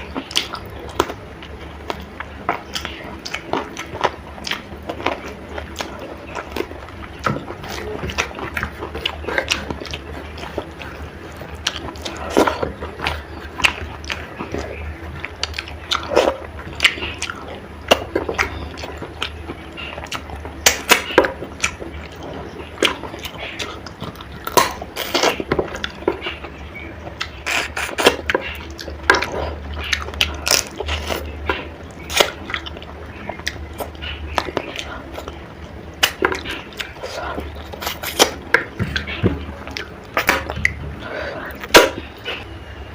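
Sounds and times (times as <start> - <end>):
close-miked chewing with wet smacks: 0.0 - 42.8.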